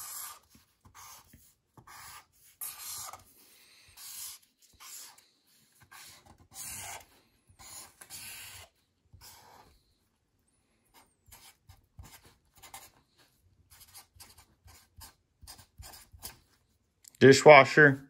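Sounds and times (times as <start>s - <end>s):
marker rubbing on paper: 0.0s - 9.8s, 10.9s - 16.6s.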